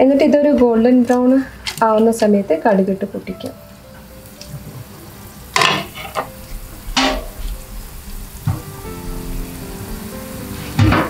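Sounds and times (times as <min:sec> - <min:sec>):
food frying in oil: 0:01.5 - 0:11.0.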